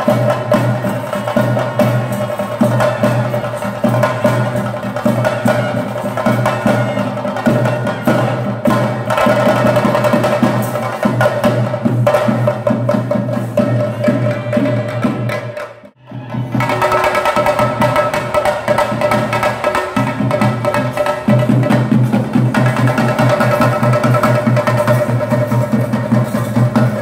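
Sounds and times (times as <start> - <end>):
drums played with sticks: 0.0 - 27.0.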